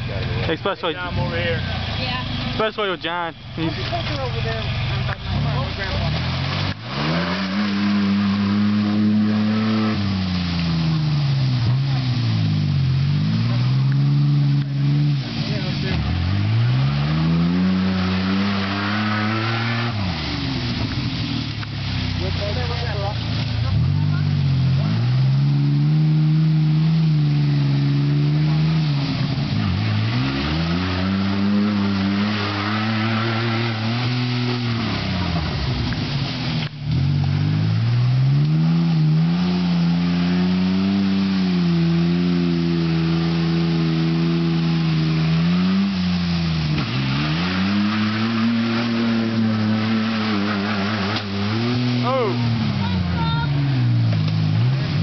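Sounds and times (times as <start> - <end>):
truck engine revving: 0.0 - 55.0
wheels churning through mud: 0.0 - 55.0.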